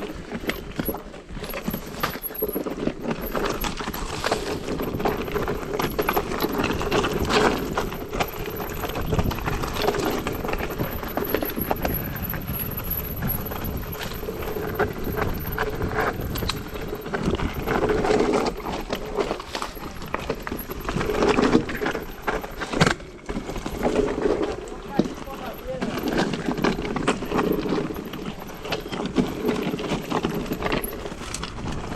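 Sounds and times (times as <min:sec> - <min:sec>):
mountain bike rattling on rocks: 0:00.0 - 0:31.9.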